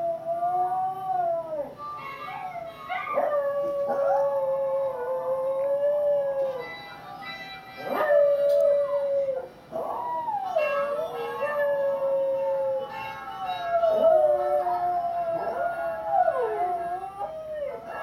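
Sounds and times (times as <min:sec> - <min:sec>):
dog howling: 0:00.0 - 0:06.7, 0:07.8 - 0:18.0
dog howling on television: 0:00.0 - 0:06.8, 0:07.8 - 0:18.0.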